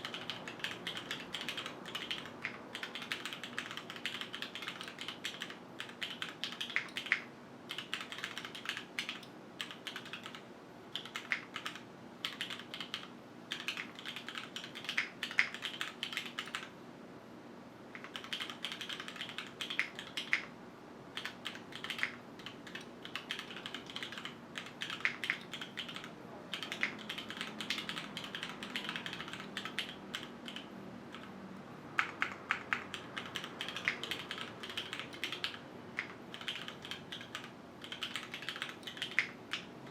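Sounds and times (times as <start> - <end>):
mechanical keyboard keystroke clacks: 0.0 - 16.7, 18.0 - 20.5, 21.2 - 31.3, 32.0 - 39.9.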